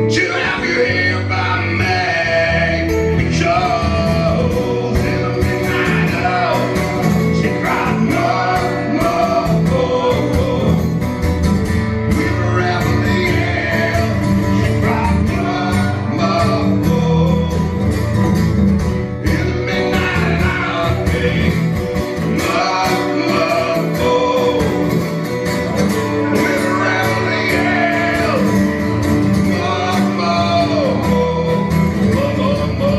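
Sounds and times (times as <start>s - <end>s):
person singing into a microphone: 0.0s - 11.0s, 12.1s - 17.8s, 19.2s - 25.2s, 26.1s - 32.9s
acoustic guitars strumming: 0.0s - 32.9s.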